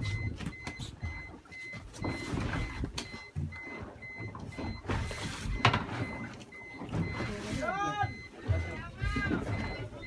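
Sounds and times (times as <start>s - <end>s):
short electronic beeps: 0.0s - 10.0s.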